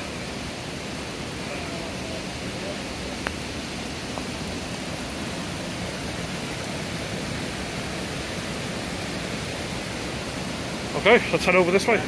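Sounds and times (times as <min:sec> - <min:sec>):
river rushing over rocks: 0:00.0 - 0:12.0
waterfall: 0:00.0 - 0:12.0.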